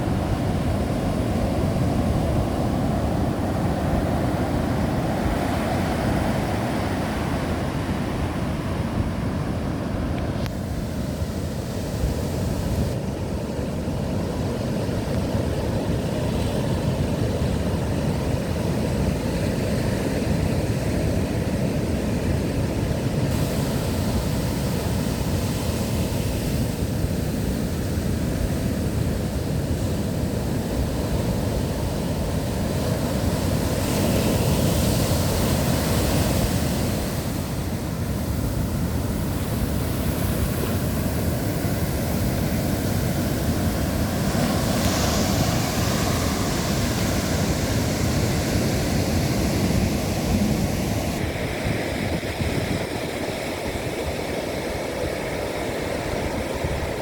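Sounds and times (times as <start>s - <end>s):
waves surging and breaking: 0.0s - 57.0s
wind rumbling on microphone: 0.0s - 57.0s.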